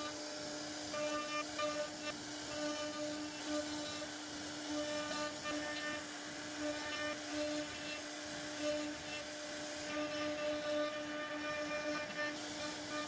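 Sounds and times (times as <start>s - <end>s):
router spindle carving wood: 0.0s - 13.0s.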